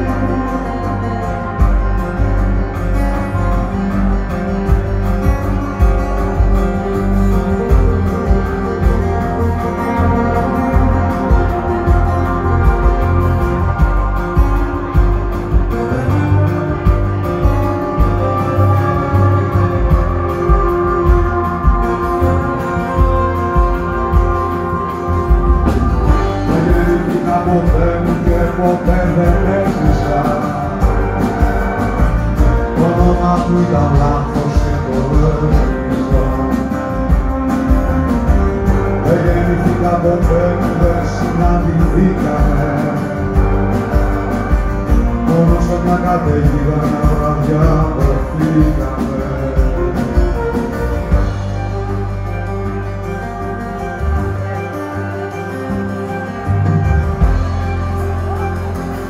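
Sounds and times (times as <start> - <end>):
violin playing: 0.0 - 46.9, 48.0 - 59.0
acoustic guitar: 0.0 - 59.0.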